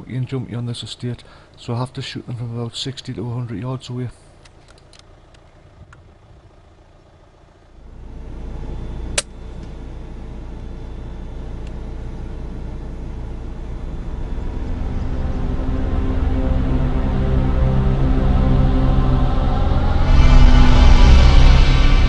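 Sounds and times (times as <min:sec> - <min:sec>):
vehicle engine rumbling: 0:01.2 - 0:22.0.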